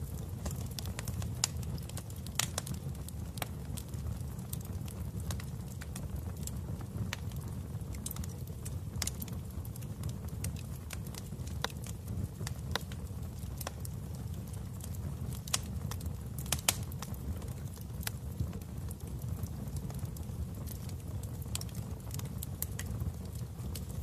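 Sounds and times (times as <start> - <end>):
wood fire crackling in a fireplace: 0.0 - 24.0.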